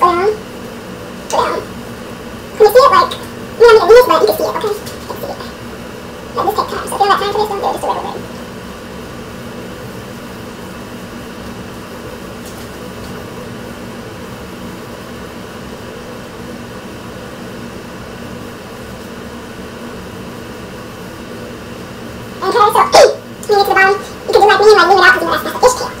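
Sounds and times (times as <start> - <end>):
ventilation fan humming: 0.0 - 26.0.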